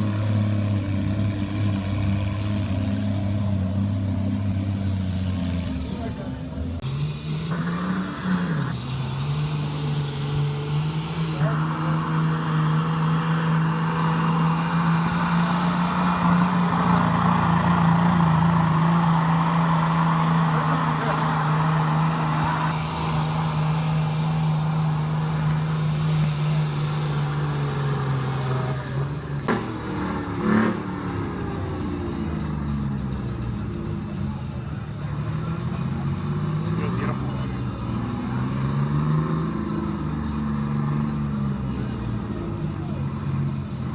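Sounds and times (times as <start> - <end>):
tractor engine at full throttle: 0.0 - 43.9.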